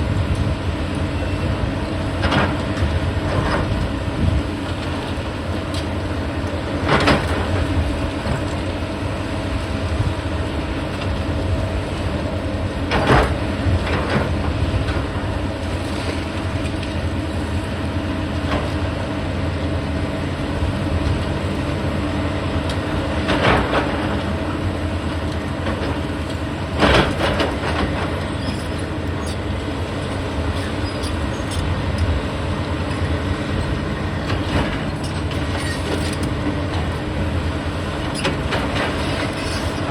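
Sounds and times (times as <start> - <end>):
demolition machinery running: 0.0 - 39.9.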